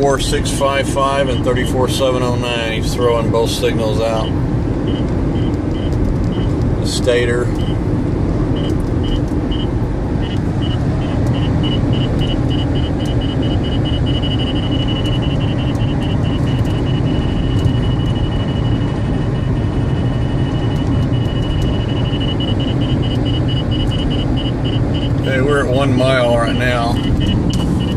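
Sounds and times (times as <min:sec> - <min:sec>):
radar detector rapid beeps: 0:00.0 - 0:07.9, 0:08.5 - 0:27.9
car road noise inside cabin: 0:00.0 - 0:27.9.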